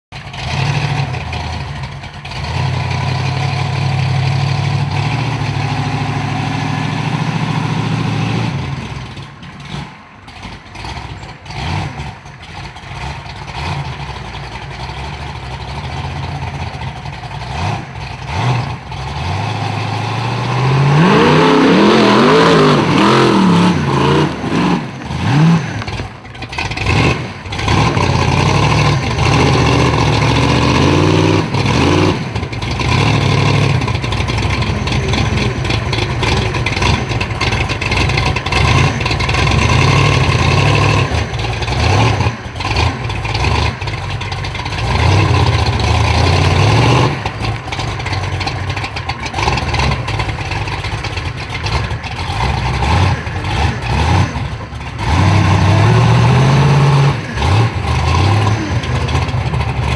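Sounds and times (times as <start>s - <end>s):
buggy engine revving: 0.1s - 59.9s.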